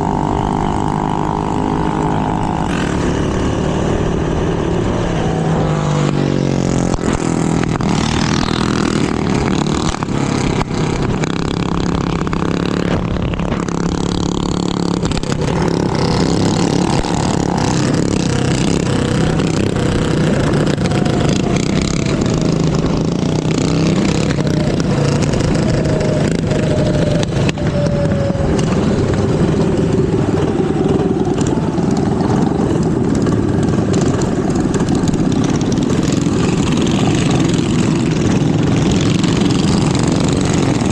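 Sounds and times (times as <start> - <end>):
minibike engine revving: 0.0 - 40.9
road and wind noise: 0.0 - 40.9.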